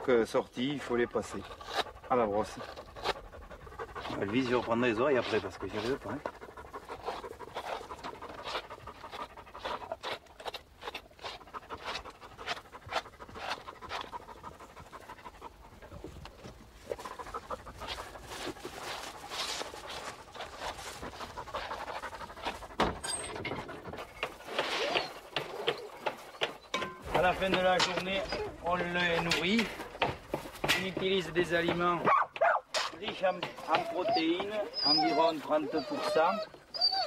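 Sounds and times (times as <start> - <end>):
dog panting: 0.0 - 32.1, 33.0 - 37.0.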